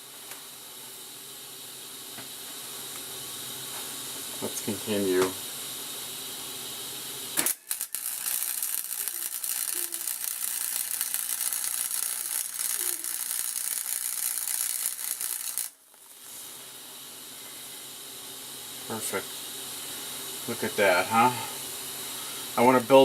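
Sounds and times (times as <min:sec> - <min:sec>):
welding arc crackling: 0:00.0 - 0:23.0.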